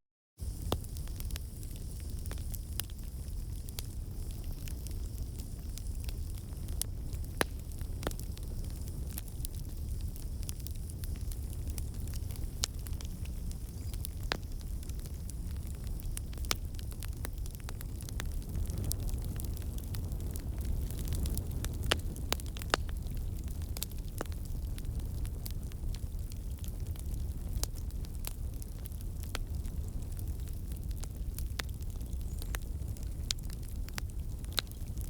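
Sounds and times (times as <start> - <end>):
fire crackling and popping: 0.4 - 35.0
fire flames rumbling: 0.4 - 35.0.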